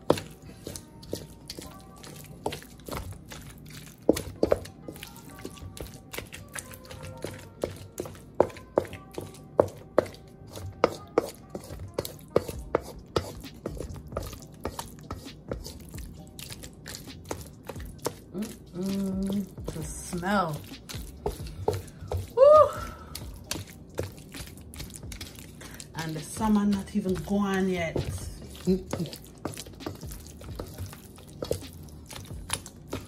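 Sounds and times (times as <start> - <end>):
soft music: 0.0 - 33.0.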